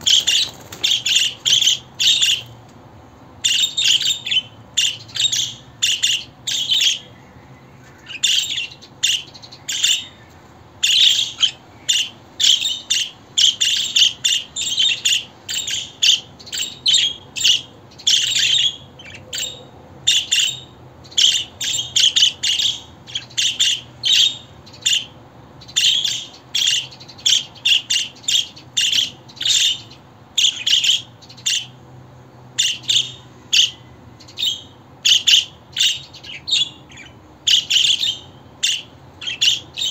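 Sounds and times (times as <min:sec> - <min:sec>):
budgerigars chirping and chattering: 0:00.0 - 0:02.6, 0:03.4 - 0:31.8, 0:32.6 - 0:39.9.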